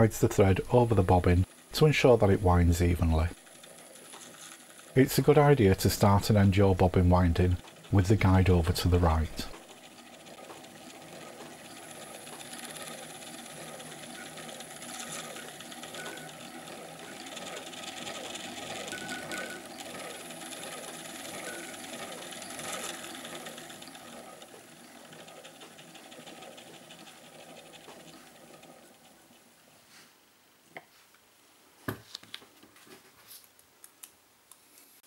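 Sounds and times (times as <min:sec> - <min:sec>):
sewing machine winding bobbin: 0:00.8 - 0:29.5.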